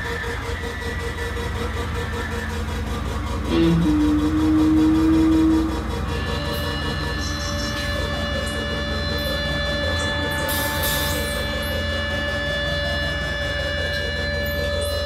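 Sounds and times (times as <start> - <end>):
low amp hum: 0.0 - 15.0
guitar amplifier feedback tones: 2.6 - 15.0.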